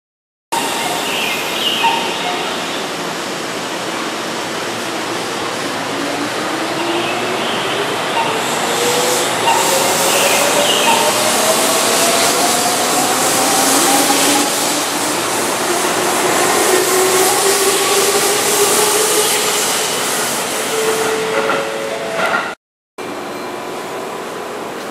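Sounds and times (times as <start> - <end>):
electric train accelerating past: 0.6 - 24.9
wheels on rail: 0.6 - 24.9.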